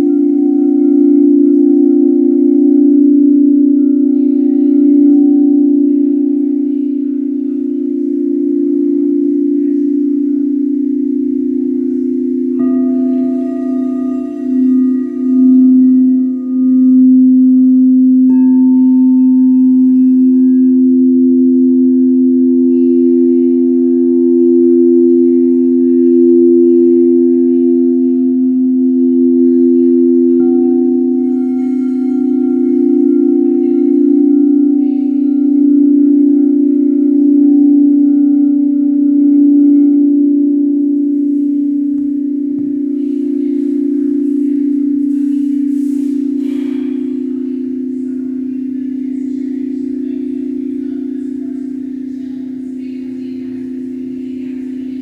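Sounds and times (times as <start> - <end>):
crystal singing bowls ringing: 0.0 - 55.0.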